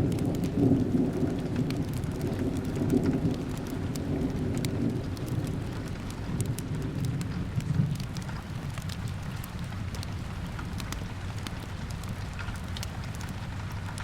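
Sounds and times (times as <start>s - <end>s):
steady rain: 0.0s - 14.0s
fireplace crackling and popping: 0.1s - 14.0s.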